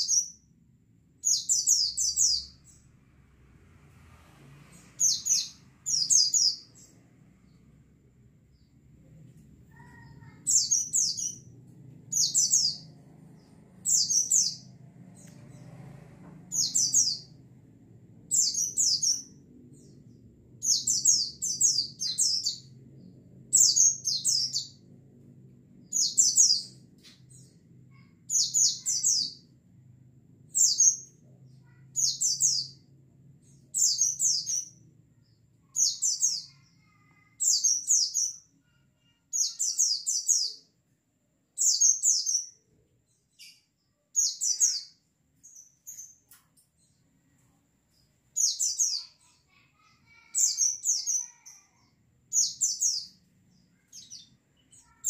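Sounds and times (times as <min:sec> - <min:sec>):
bird chirping: 0:00.0 - 0:00.5, 0:01.2 - 0:02.9, 0:04.7 - 0:15.8, 0:16.5 - 0:17.6, 0:18.2 - 0:24.9, 0:25.8 - 0:29.5, 0:30.5 - 0:40.8, 0:41.6 - 0:55.0.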